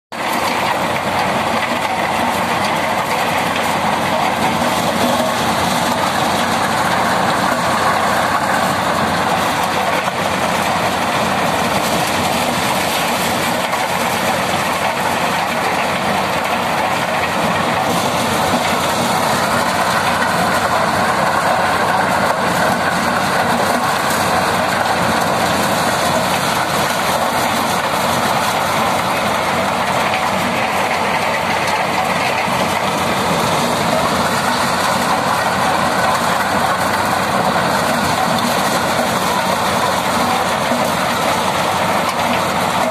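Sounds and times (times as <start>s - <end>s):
tractor engine and thresher din: 0.1s - 42.9s
corn kernels pouring: 0.2s - 42.9s.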